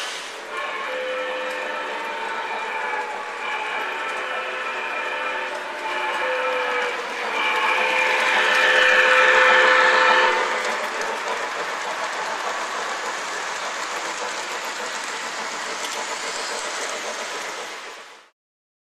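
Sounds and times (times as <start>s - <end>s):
model train wheels rattling: 1.3s - 18.3s.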